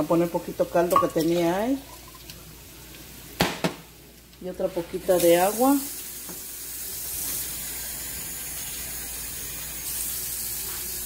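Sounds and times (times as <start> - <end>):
water running: 0.0 - 3.4, 5.0 - 11.0.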